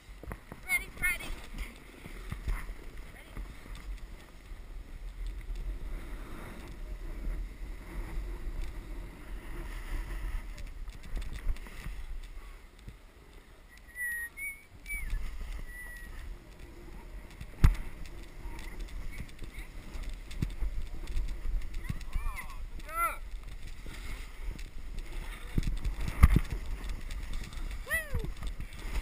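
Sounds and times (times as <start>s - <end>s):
snowboard scraping over snow: 0.0s - 13.7s, 14.7s - 29.0s
wind buffeting microphone: 0.0s - 29.0s.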